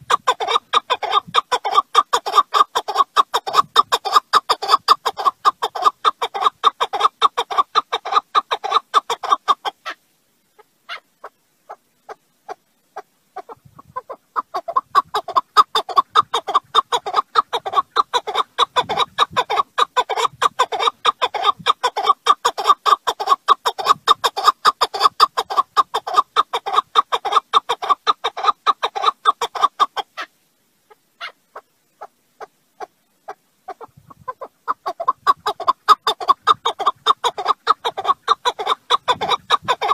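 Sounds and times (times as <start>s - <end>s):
partridge calling: 0.1s - 10.0s, 10.6s - 30.3s, 30.9s - 39.9s.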